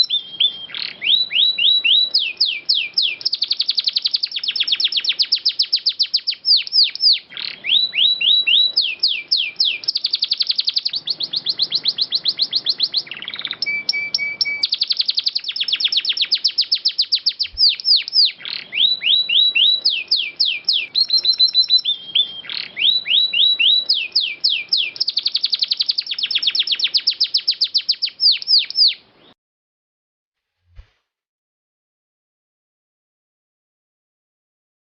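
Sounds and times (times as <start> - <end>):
canary singing trills: 0.0 - 29.4.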